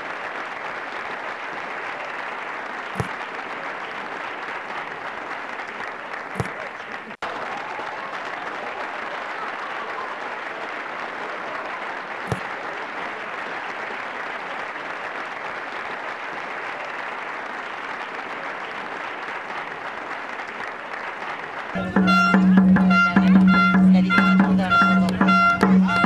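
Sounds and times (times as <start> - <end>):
spectators applauding: 0.0 - 26.0.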